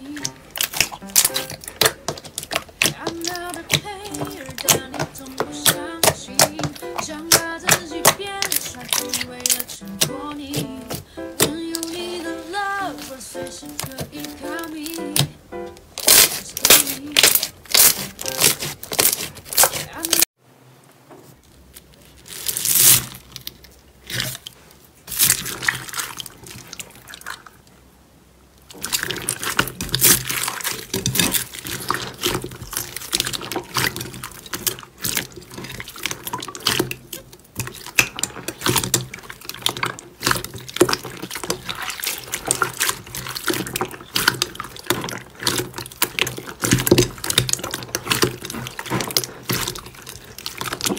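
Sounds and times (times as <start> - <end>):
slime squeezed by hand: 0.0 - 9.9, 10.5 - 20.0, 28.8 - 50.9.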